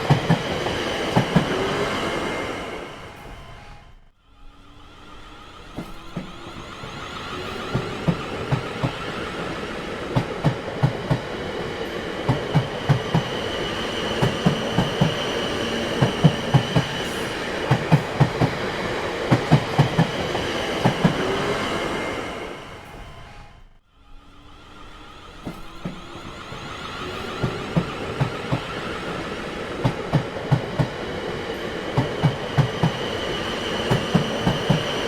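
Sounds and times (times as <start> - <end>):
train wheels clickety-clack: 0.0 - 3.8, 5.6 - 23.6, 25.2 - 35.0
train rumble: 0.0 - 35.0.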